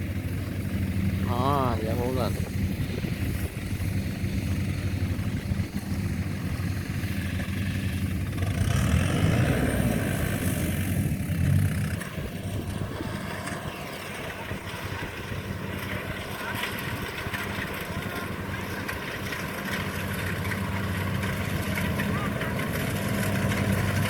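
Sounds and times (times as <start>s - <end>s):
combine harvester engine droning: 0.0s - 24.0s.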